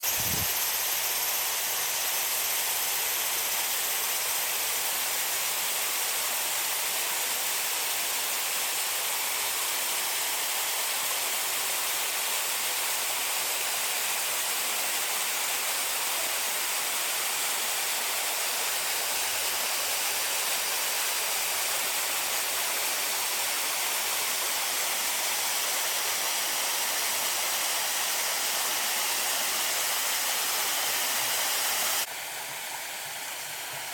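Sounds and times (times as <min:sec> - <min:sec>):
small waterfall splashing: 0:00.0 - 0:33.9.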